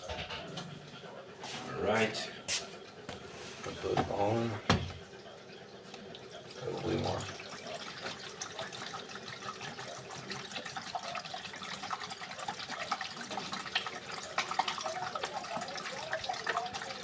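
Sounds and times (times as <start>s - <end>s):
water pouring and splashing: 3.2s - 17.0s.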